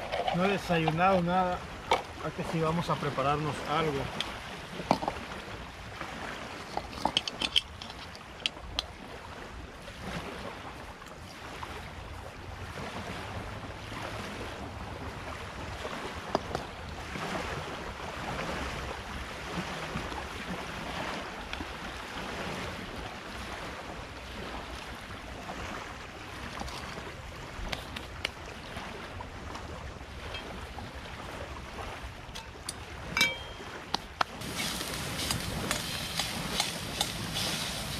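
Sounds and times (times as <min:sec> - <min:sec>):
river water: 0:00.0 - 0:37.9
rush of wind: 0:00.0 - 0:37.9
wind gusting on microphone: 0:00.0 - 0:37.9.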